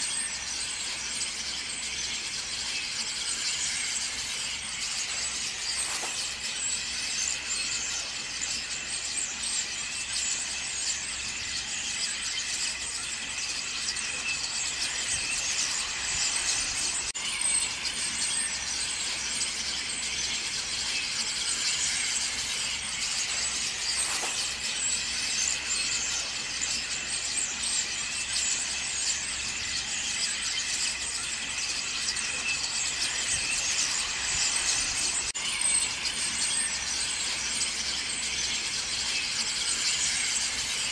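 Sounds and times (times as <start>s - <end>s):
starlings chattering: 0.0s - 40.9s.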